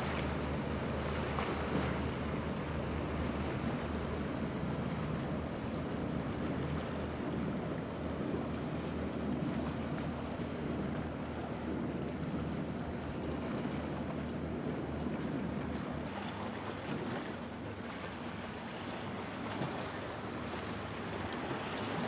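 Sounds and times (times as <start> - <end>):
boat engine humming: 0.0 - 22.0
surf: 0.0 - 22.0.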